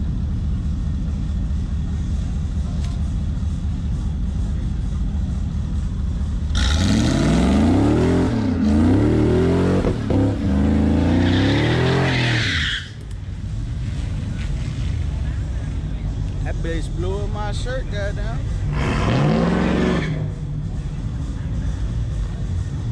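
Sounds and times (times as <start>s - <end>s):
truck engine accelerating: 0.0s - 22.9s.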